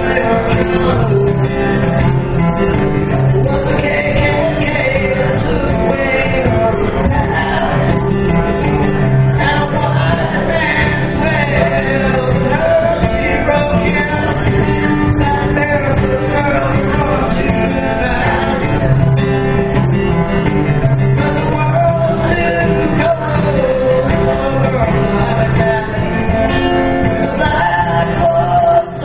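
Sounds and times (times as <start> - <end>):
instrumental accompaniment: 0.0 - 29.0
man singing: 0.0 - 29.0.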